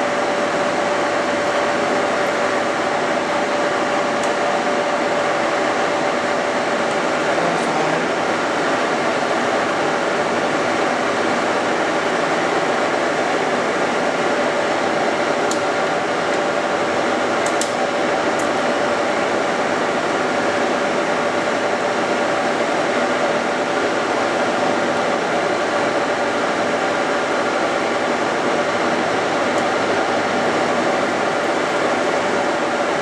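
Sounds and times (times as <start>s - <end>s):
lathe running with whine: 0.0s - 33.0s.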